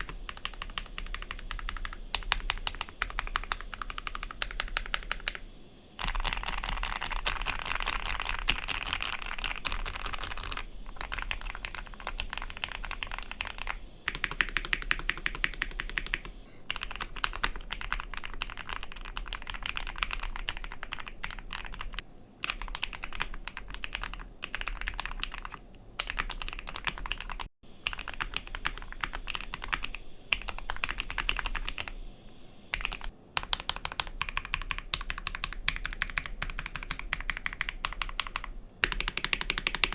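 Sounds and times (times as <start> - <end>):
mechanical keyboard typing: 0.0 - 32.0, 32.7 - 39.9.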